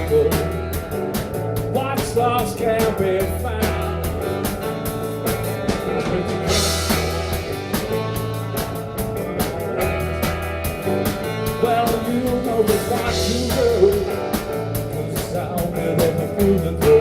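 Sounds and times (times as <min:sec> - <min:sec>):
drum kit steady beat: 0:00.0 - 0:17.0
guitar and bass: 0:00.0 - 0:17.0.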